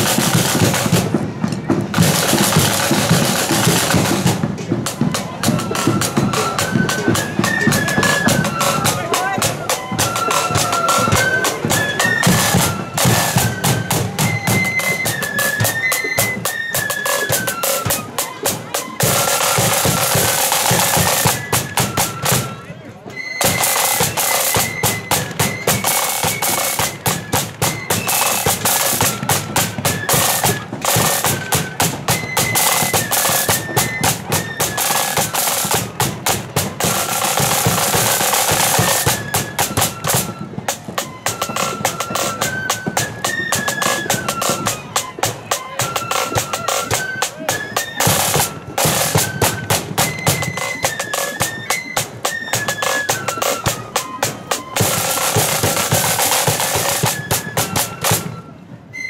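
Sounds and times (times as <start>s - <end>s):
snare drums rattling: 0.0s - 58.4s
flutes playing march melody: 0.0s - 59.0s.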